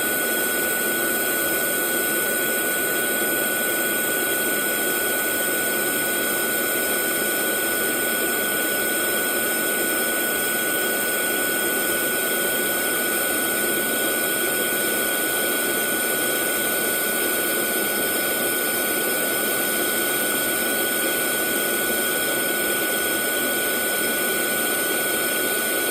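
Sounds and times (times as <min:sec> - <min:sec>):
hair dryer running: 0:00.0 - 0:25.9.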